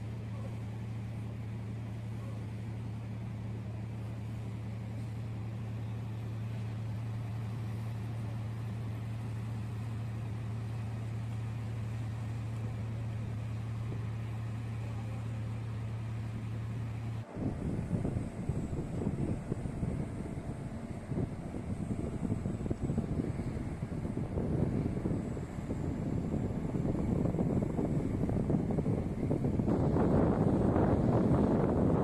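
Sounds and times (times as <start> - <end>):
ship diesel engines droning: 0.0 - 32.0
wind buffeting microphone: 0.0 - 32.0.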